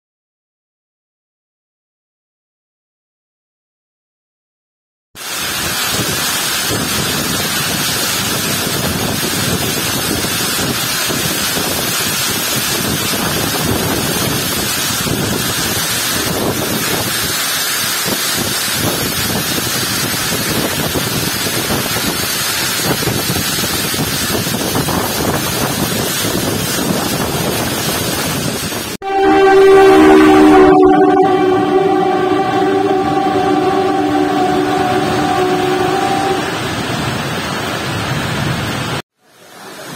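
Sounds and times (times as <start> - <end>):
heavy rain hiss: 5.2 - 30.1, 31.0 - 39.9.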